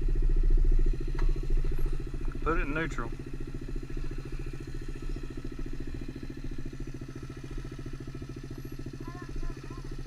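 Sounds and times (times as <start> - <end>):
small motorbike engine idling: 0.0 - 10.0.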